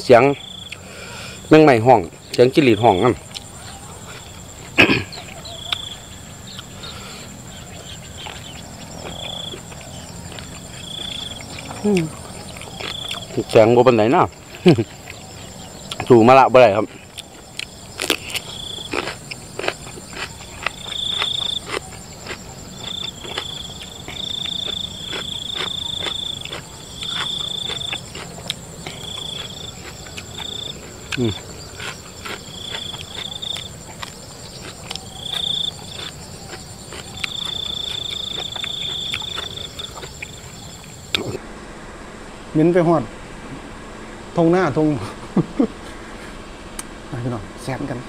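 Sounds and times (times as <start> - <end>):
crickets trilling: 0.0 - 48.0
high insect whine: 0.0 - 48.0
crunchy chewing clicks: 0.4 - 0.9, 2.0 - 41.4.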